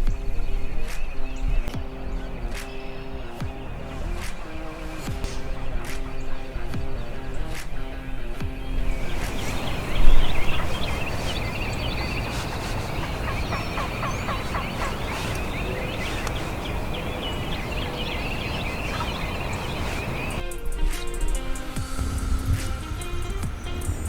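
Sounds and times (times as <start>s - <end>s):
songbirds chirping: 0.0s - 24.0s
turkey gobbling: 0.2s - 20.4s.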